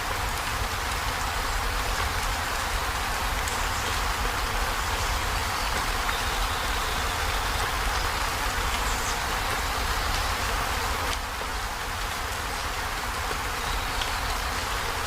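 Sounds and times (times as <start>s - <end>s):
heavy rain on a metal roof: 0.0s - 15.0s.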